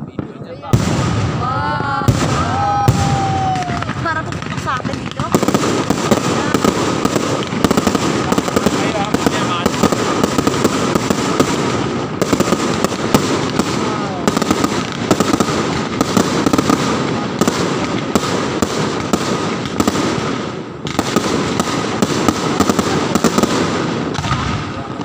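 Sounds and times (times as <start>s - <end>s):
fireworks and firecrackers popping: 0.0s - 25.0s.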